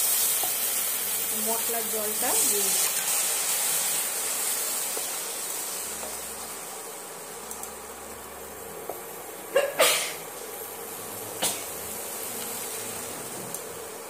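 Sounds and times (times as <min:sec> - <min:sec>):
spices sizzling in hot oil: 0:00.0 - 0:14.0.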